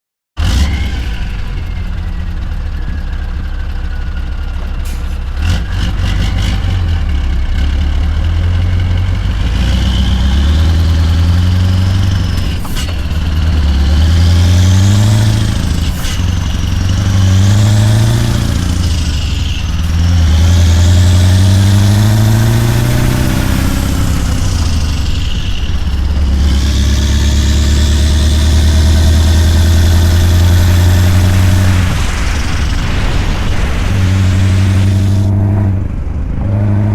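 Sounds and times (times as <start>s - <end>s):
diesel truck engine accelerating: 0.4s - 36.9s
high engine whine: 0.4s - 36.9s.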